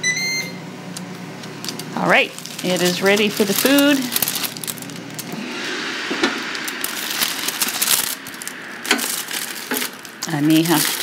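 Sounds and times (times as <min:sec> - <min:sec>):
grill fan rushing: 0:00.0 - 0:11.0.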